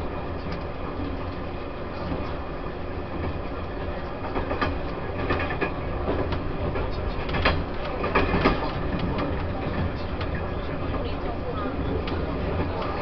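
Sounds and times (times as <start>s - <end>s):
low rumble of wheels on rail: 0.0s - 13.0s.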